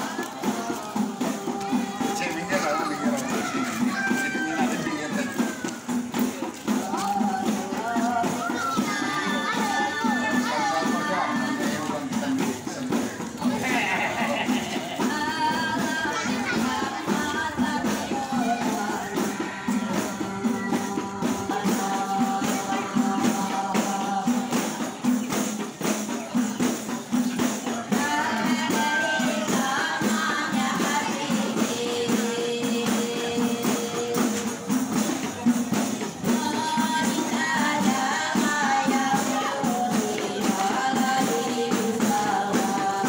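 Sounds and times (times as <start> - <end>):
frame drums with jingles: 0.0 - 43.0.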